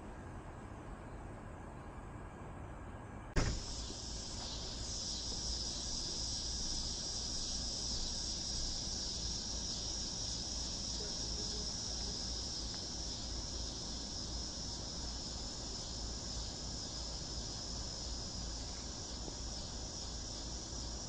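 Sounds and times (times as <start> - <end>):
crickets chirping: 3.4 - 21.0.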